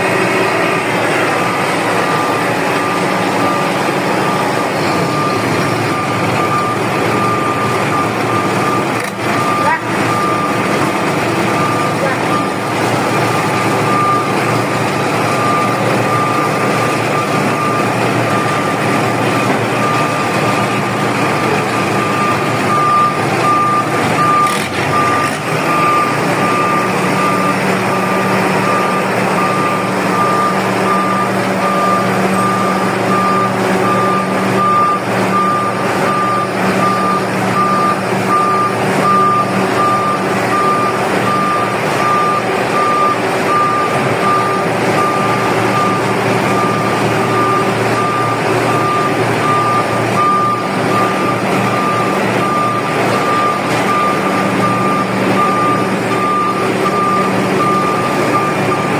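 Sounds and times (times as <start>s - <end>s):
diesel engine running: 0.0s - 58.9s
reversing alarm beeping: 0.0s - 58.9s.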